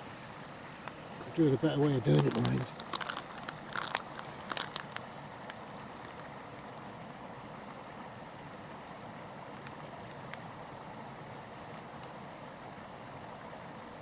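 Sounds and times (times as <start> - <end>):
stream flowing water: 0.0 - 14.0.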